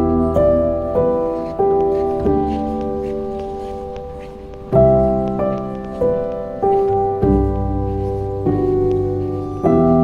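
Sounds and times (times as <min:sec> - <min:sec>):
slow piano chords: 0:00.0 - 0:10.0.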